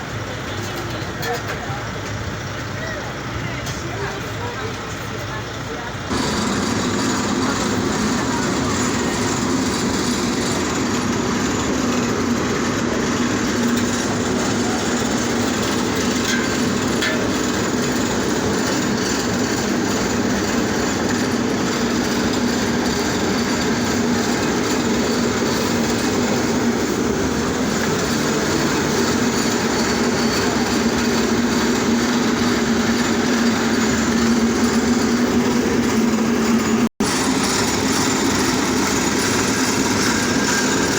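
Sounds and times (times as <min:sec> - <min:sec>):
road repair machinery running: 0:00.0 - 0:40.9.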